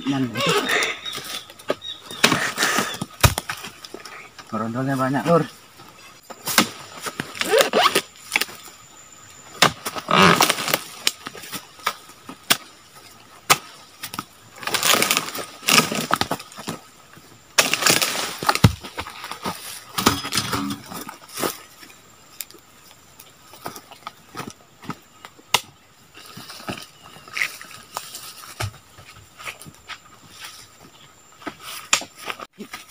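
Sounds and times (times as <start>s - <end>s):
fronds rustling: 0.0s - 32.9s.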